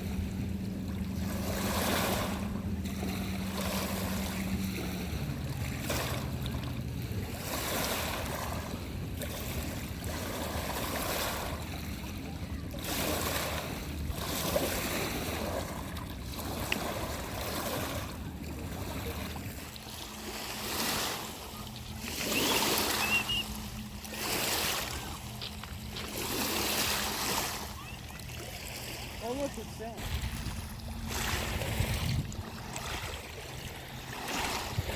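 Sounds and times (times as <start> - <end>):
waves washing onto rocky shore: 1.3 - 34.9.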